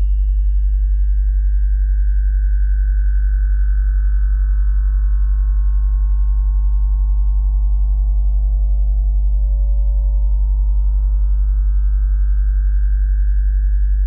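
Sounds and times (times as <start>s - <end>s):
deep steady sine hum: 0.0s - 14.0s.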